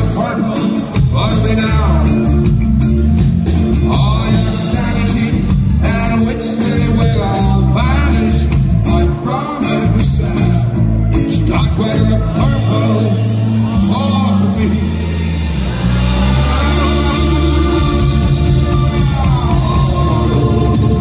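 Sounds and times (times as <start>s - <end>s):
man singing into microphone: 0.0s - 2.6s, 3.8s - 21.0s
live rock band playing: 0.0s - 21.0s.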